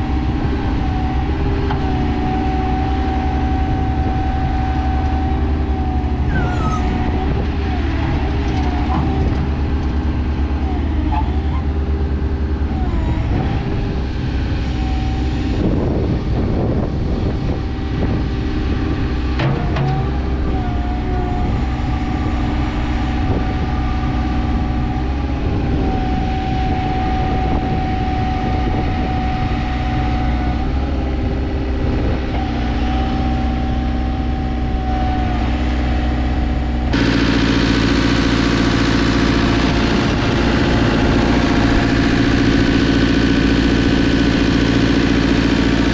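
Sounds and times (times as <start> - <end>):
diesel engine running: 0.0 - 45.9
high engine whine: 0.0 - 45.9.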